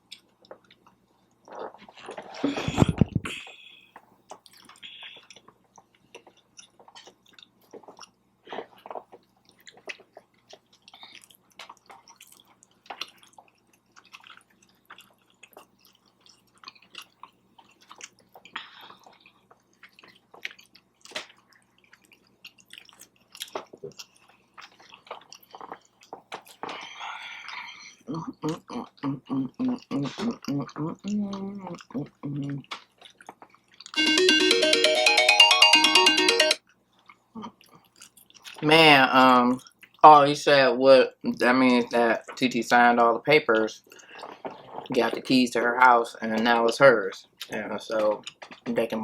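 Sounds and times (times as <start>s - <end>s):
person chewing food: 0.0s - 34.0s, 36.6s - 38.6s, 39.6s - 40.0s, 43.5s - 45.0s, 47.3s - 48.7s.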